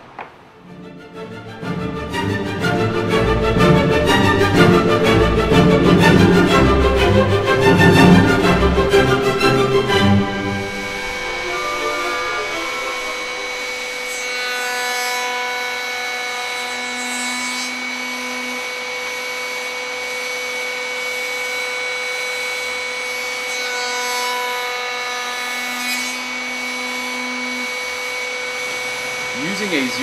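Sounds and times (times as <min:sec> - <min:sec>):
router whining: 0:00.0 - 0:30.0
router bit cutting wood: 0:00.8 - 0:30.0.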